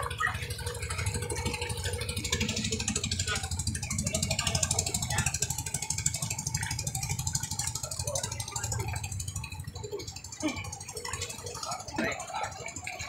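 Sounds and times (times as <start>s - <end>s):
small engine rattling idle: 0.0s - 13.0s.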